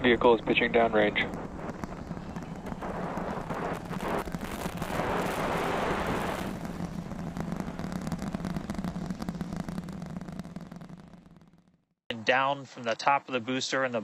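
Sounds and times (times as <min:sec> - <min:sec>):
rocket engine roar with crackle: 0:00.0 - 0:11.9.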